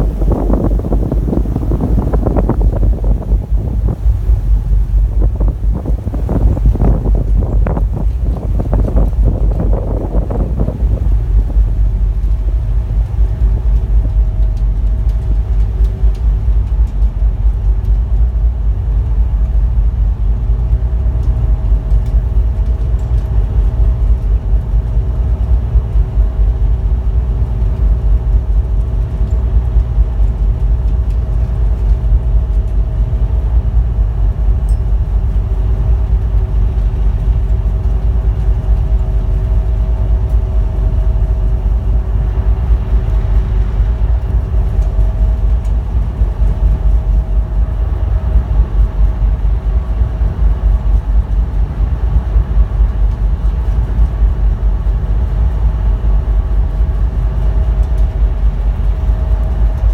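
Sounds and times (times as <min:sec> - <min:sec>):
ferry engines humming: 0:00.0 - 0:59.9
wind buffeting microphone: 0:00.0 - 0:59.9.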